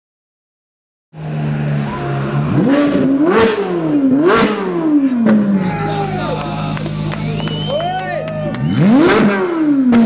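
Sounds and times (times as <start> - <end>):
car engine idling and revving: 1.2 - 10.0.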